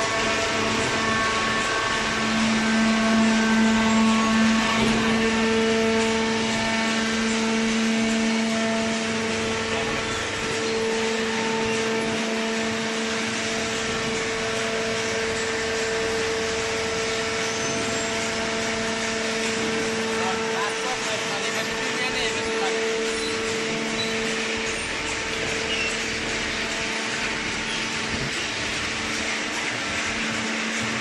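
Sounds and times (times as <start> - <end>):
baler hum and whine: 0.0 - 31.0
mechanical clatter: 0.0 - 31.0.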